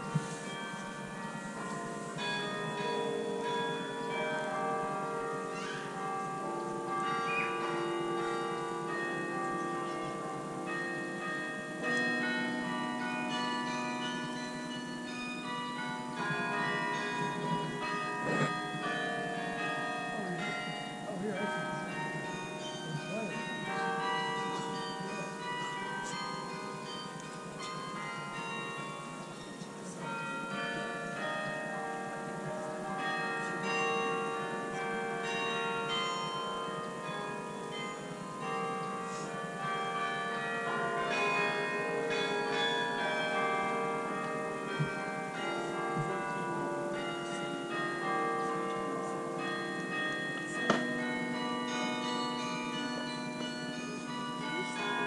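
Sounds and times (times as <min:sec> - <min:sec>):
carillon bells ringing melody: 0:00.0 - 0:55.0.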